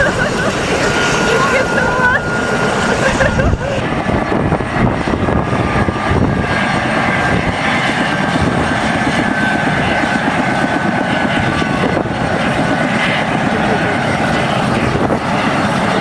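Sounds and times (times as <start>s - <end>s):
helicopter engine and rotor: 0.0s - 16.0s
high turbine whine: 0.0s - 16.0s.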